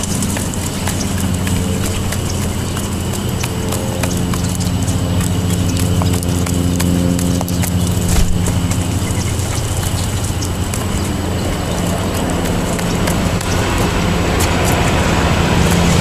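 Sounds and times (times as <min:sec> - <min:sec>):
beak tapping on pavement: 0:00.0 - 0:16.0
steady low hum: 0:00.0 - 0:16.0.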